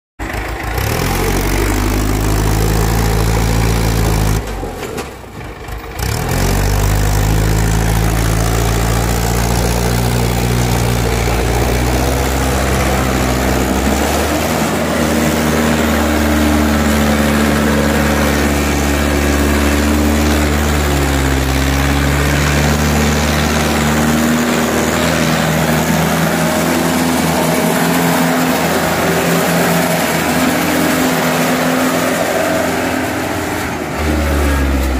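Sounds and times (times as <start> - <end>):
tractor diesel engine running hard: 0.2 - 34.9.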